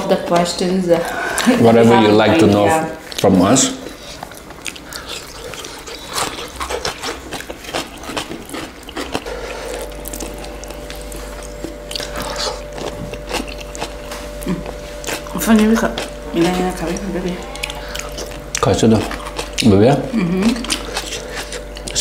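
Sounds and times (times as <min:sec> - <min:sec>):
wet chewing: 0:02.5 - 0:22.0.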